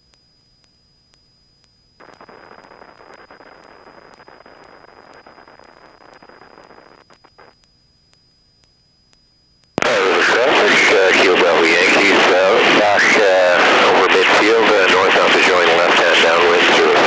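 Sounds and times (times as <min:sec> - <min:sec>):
radio static crackles: 0:00.0 - 0:17.0
radio static hiss: 0:02.0 - 0:08.8, 0:09.7 - 0:17.0.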